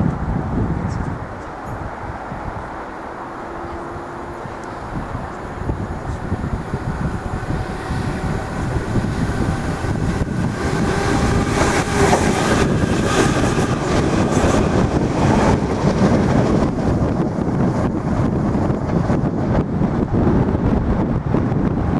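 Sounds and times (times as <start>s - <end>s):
rail rumble: 0.0s - 21.9s
electric train whine: 0.2s - 21.9s.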